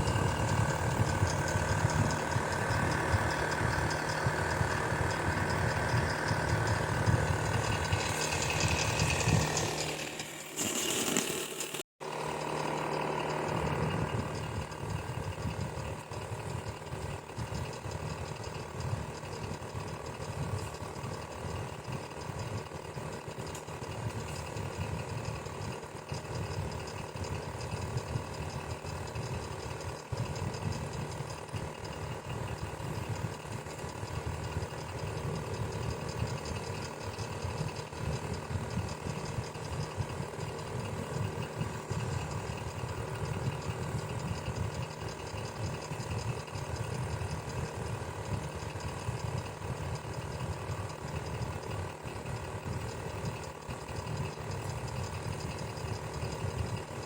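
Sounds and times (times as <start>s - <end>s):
electric fan whirring: 0.0s - 57.0s.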